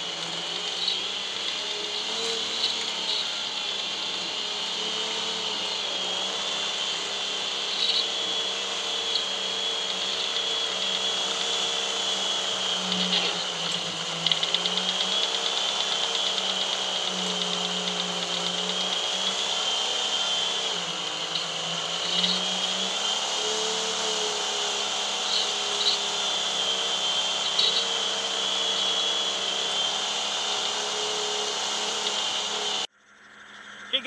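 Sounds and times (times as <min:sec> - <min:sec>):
snow groomer engine running: 0:00.0 - 0:32.9.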